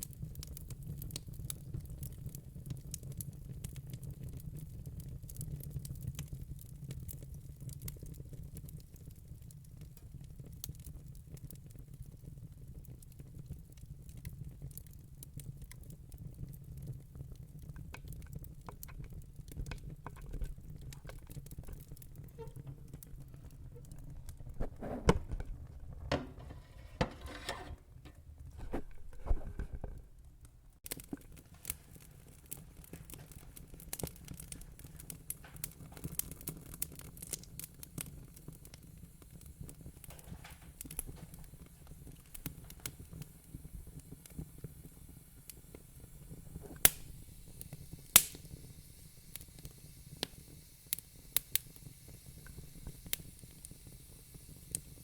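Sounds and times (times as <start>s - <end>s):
low rumble of flames: 0.0s - 27.4s, 28.3s - 55.0s
wood fire crackling: 0.0s - 55.0s.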